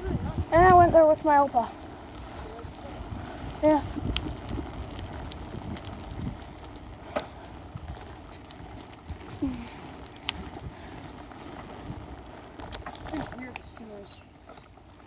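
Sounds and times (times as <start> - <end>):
bicycle tyres rumbling: 0.0 - 15.0.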